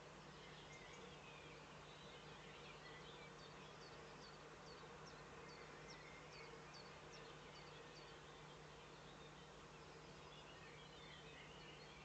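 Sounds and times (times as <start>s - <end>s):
faint distant birdsong: 0.0s - 12.0s
steady low hum and hiss: 0.0s - 12.0s.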